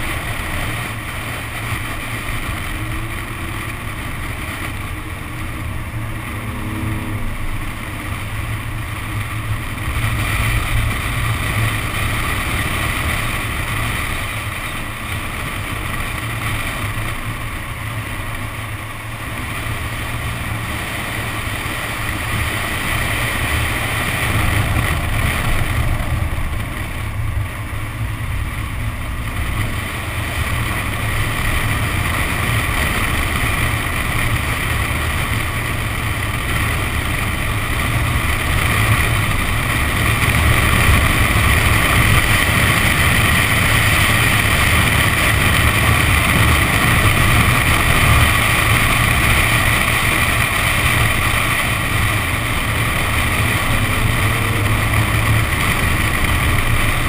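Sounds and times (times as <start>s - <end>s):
car engine under load: 0.0s - 57.0s
wind on camera: 0.0s - 57.0s.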